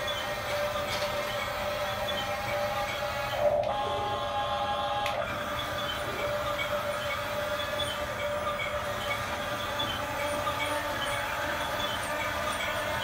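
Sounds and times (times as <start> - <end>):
toy bulldozer electric motor whine: 0.0 - 13.0.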